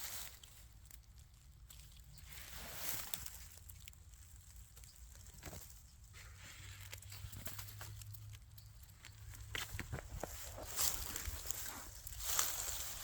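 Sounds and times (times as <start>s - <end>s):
rustling in dry leaf litter: 0.0s - 13.0s.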